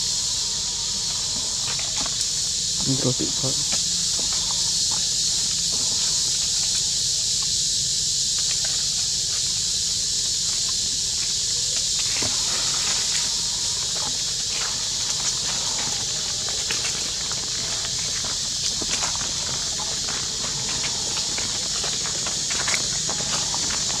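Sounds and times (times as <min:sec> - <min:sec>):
insect chorus drone: 0:00.0 - 0:24.0
rustling in dry leaves: 0:00.0 - 0:24.0.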